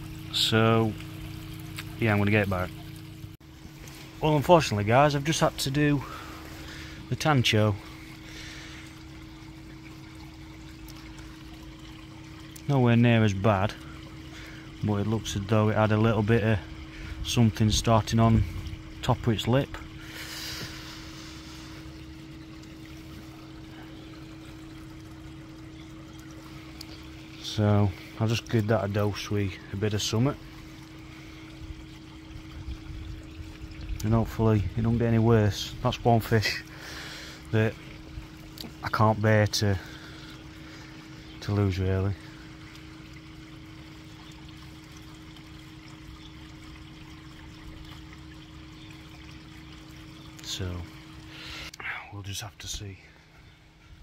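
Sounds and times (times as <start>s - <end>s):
steady low hum: 0.0s - 54.0s
water trickling: 0.0s - 54.0s.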